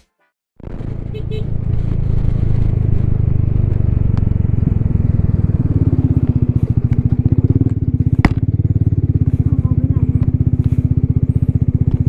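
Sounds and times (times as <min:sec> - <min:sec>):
scooter engine running: 0:01.2 - 0:12.0.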